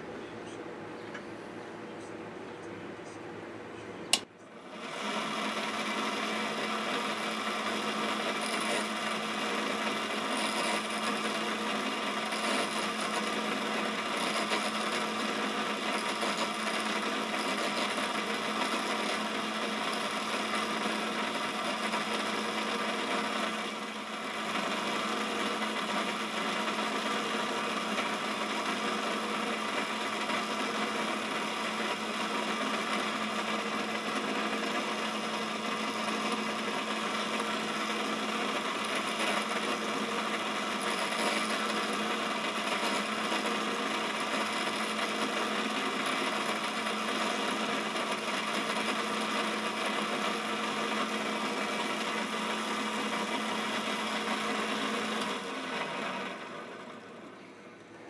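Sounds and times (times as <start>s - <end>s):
grinder wheel grinding metal: 4.7s - 56.7s.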